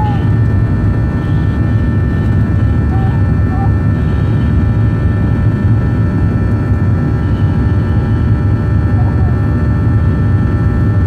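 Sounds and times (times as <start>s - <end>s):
airplane cabin engine rumble: 0.0s - 11.0s
steady whining tones: 0.0s - 11.0s.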